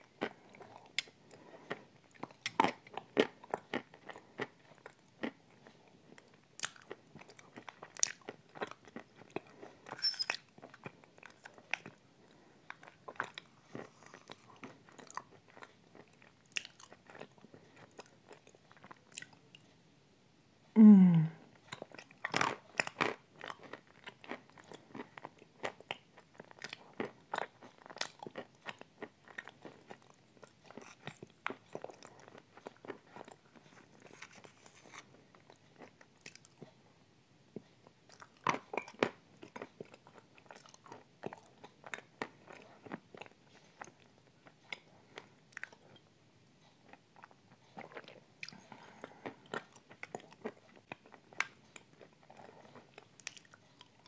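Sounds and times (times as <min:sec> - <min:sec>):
chewing and crunching: 0:00.0 - 0:19.8, 0:21.6 - 0:36.9, 0:37.5 - 0:54.0.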